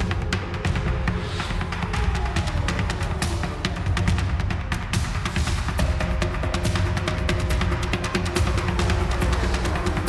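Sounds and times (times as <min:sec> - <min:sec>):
music with heavy bass and percussion: 0:00.0 - 0:10.0.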